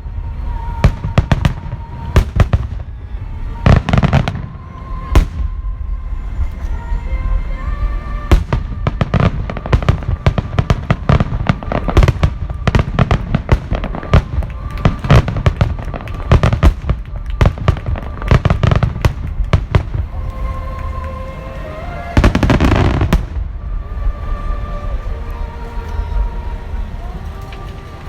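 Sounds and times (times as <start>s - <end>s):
fireworks bangs and crackles: 0.0s - 28.0s
whistling fireworks: 0.0s - 28.0s.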